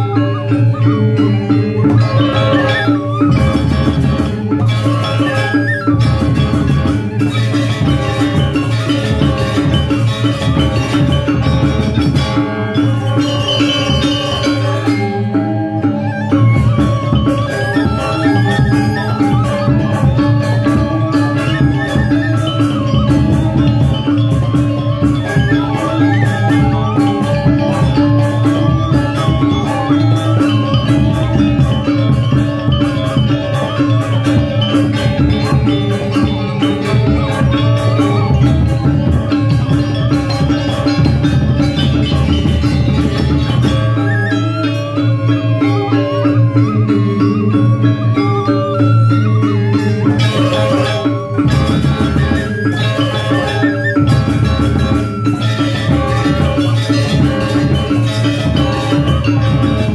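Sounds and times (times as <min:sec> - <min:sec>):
bamboo flutes: 0:00.0 - 0:59.9
drums: 0:00.0 - 0:59.9
metallophones playing fast patterns: 0:00.0 - 0:59.9.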